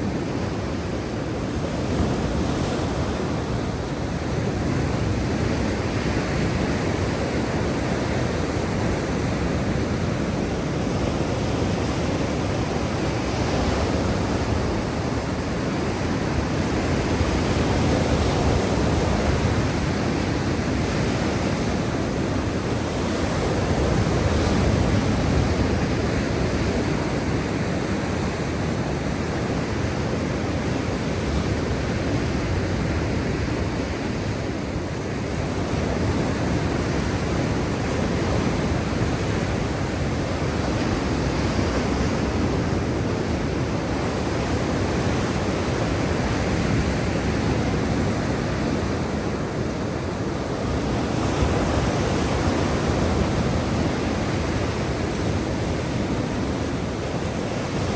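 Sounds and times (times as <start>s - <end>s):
waves washing in: 0.0s - 57.9s.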